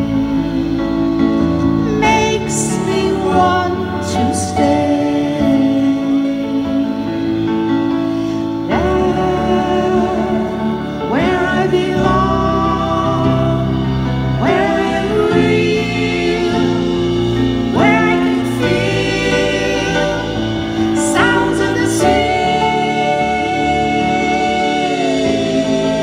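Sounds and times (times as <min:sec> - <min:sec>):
bass: 0:00.0 - 0:26.0
keyboard chords: 0:00.0 - 0:26.0
layered singing voices: 0:00.0 - 0:26.0.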